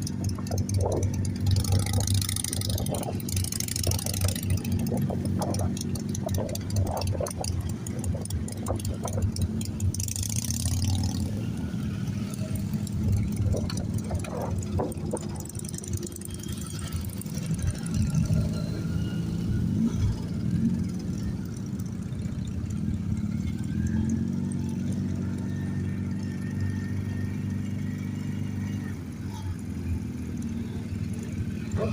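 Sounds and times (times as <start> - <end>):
motorcycle engines idling: 0.0 - 31.9.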